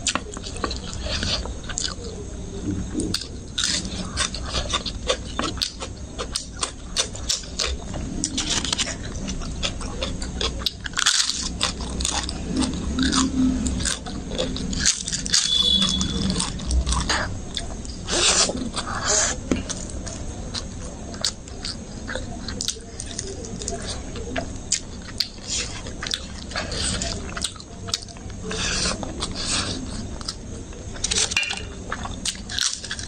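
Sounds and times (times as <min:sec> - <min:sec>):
chewing and biting food: 0:00.0 - 0:33.0.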